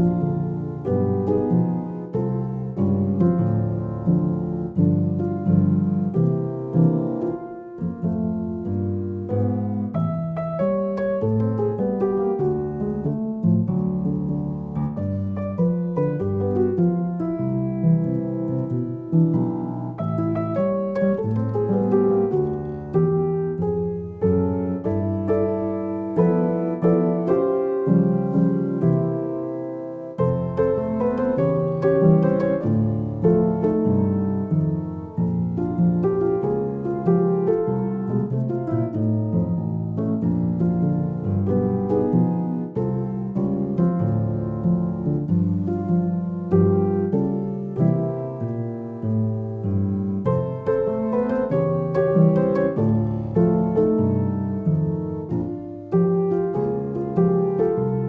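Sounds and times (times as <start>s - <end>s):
gentle piano music: 0.0s - 58.0s.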